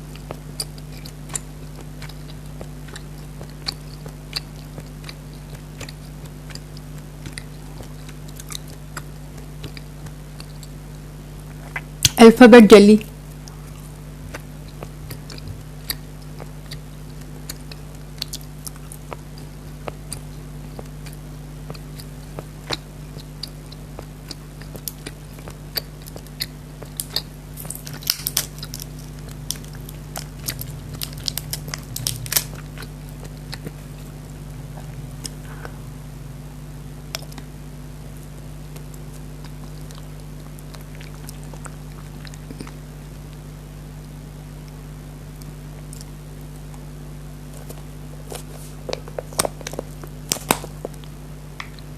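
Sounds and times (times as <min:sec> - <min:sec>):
steady low hum: 0:00.0 - 0:51.9
chewing jelly: 0:00.1 - 0:12.2, 0:13.4 - 0:35.9, 0:37.1 - 0:43.5, 0:47.5 - 0:51.9.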